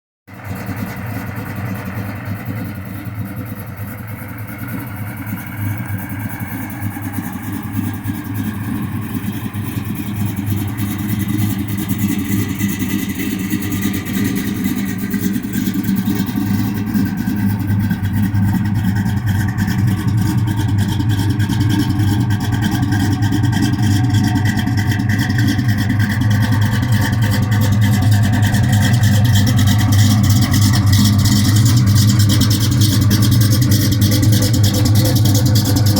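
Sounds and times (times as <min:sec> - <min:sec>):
engine idling rough: 0:00.3 - 0:35.9.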